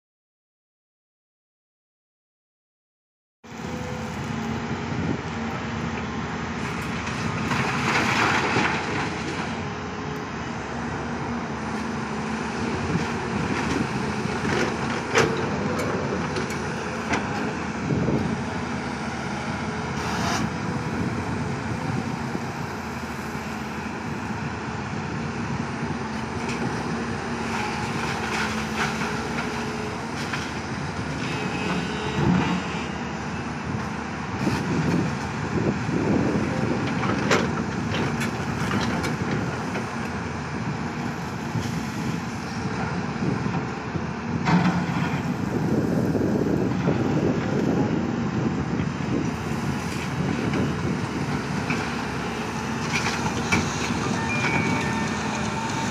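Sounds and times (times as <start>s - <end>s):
excavator diesel engines droning: 3.5s - 55.9s.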